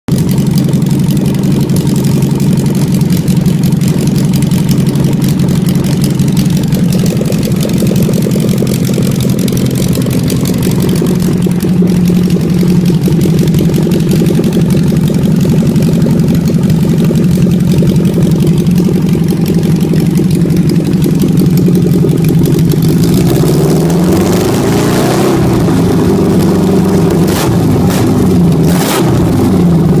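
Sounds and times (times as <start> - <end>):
engine idling and revving: 0.1 - 30.0.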